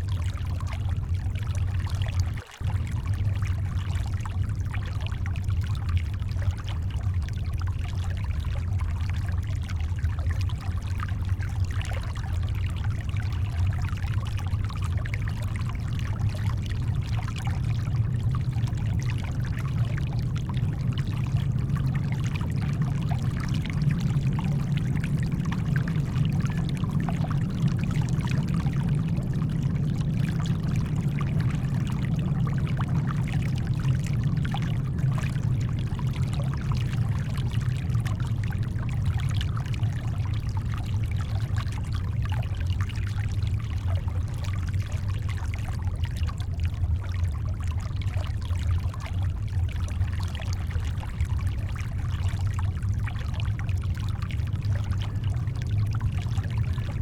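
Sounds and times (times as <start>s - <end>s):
deep brown noise: 0.0s - 57.0s
shoreline water washing: 0.0s - 57.0s.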